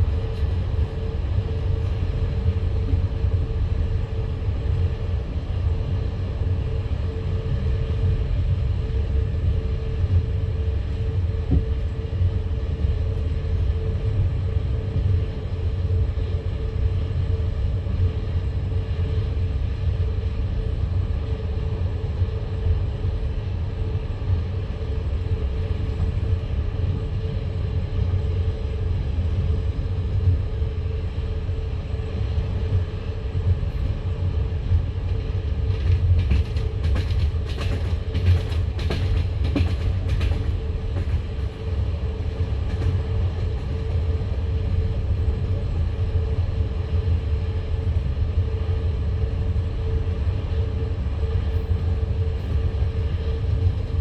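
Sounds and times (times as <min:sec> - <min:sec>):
constant hum: 0:00.0 - 0:54.0
train wheels rumbling on rails: 0:00.0 - 0:54.0.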